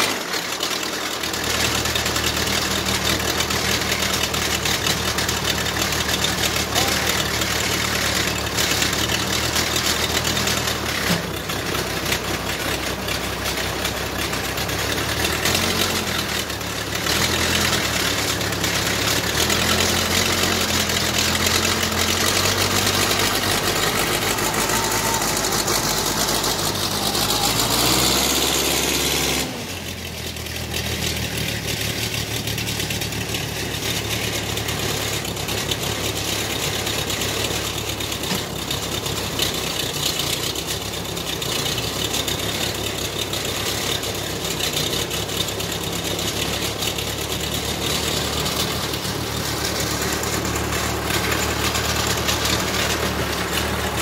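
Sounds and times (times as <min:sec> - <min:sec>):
backhoe loader engine running: 0:00.0 - 0:54.0.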